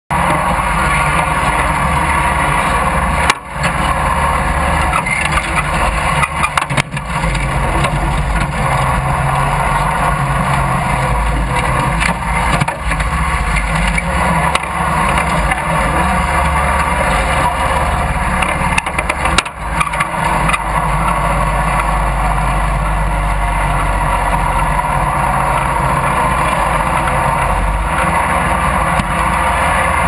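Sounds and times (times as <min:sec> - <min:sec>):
riding lawn mower engine running: 0:00.1 - 0:30.0.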